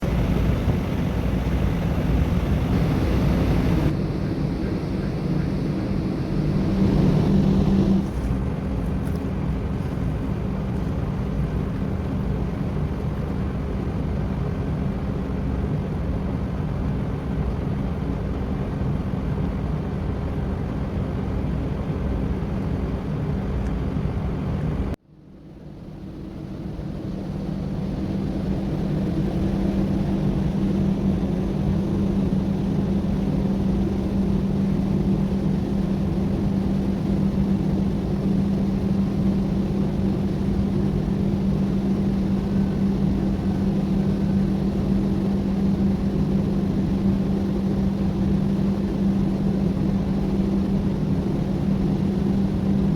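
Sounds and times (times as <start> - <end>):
ship engine drone: 0.0 - 52.9.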